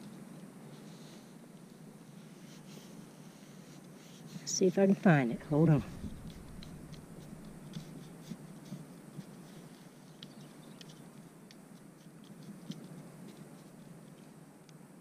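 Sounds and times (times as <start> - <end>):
probe scratching through soil: 0.1 - 14.4.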